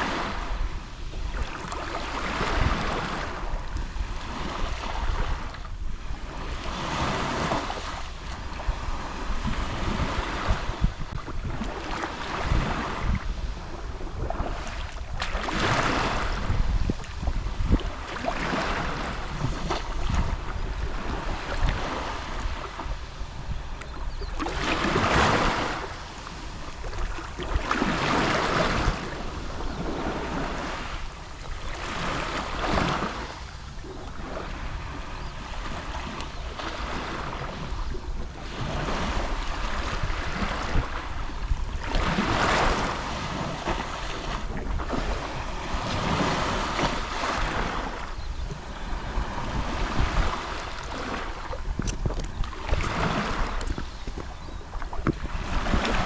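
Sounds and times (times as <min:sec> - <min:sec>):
sea waves lapping on shore: 0:00.0 - 0:56.0
wind rumble on microphone: 0:00.0 - 0:56.0.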